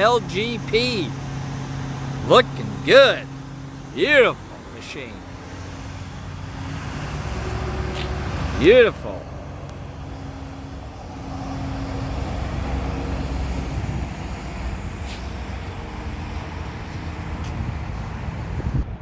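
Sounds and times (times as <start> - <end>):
bulldozer diesel engine running: 0.0 - 18.6.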